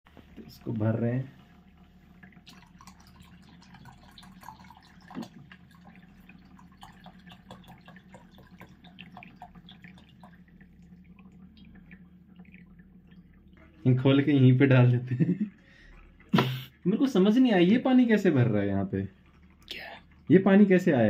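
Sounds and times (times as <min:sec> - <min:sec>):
water pouring and trickling: 0:00.1 - 0:21.0.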